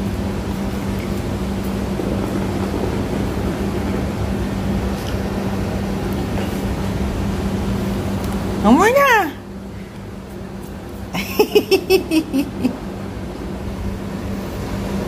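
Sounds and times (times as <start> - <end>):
mechanical hum with rushing noise: 0.0 - 15.0.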